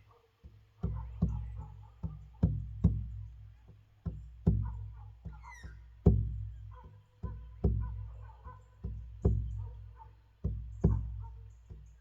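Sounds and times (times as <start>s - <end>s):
frame drum deep booms: 0.8s - 8.2s, 8.8s - 11.9s.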